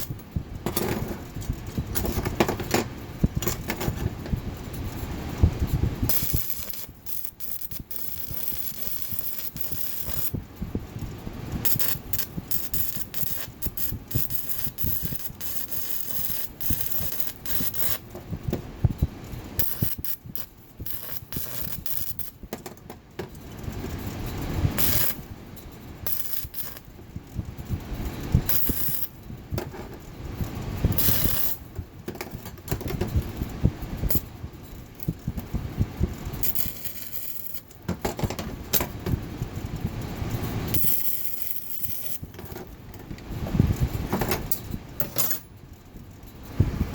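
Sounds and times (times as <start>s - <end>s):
electric arc welding crackle: 0.0s - 22.5s, 23.6s - 29.2s, 30.6s - 31.8s, 32.9s - 37.9s, 38.6s - 44.1s.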